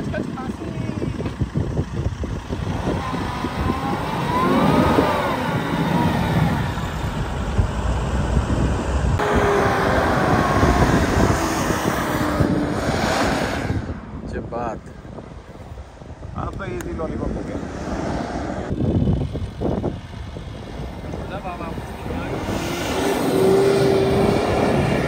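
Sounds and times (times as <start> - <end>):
car engine revving: 0.0 - 14.3, 16.8 - 25.0.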